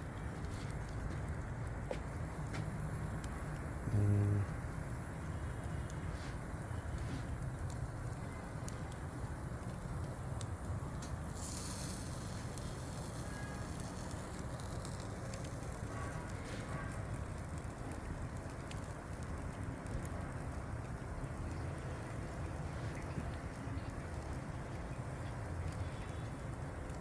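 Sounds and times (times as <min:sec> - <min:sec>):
charcoal crackling and popping: 0:00.0 - 0:27.0
oil sizzling on coals: 0:00.0 - 0:27.0
steady low rumble: 0:00.0 - 0:27.0.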